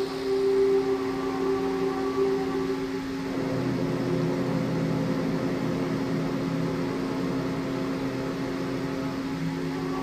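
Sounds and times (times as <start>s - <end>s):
low constant tone: 0.0s - 10.0s
steady hum and hiss: 0.0s - 10.0s.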